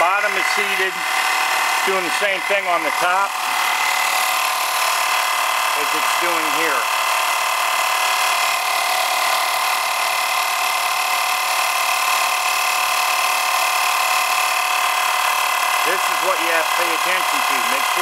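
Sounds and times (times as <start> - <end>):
air compressor whining: 0.0 - 18.0.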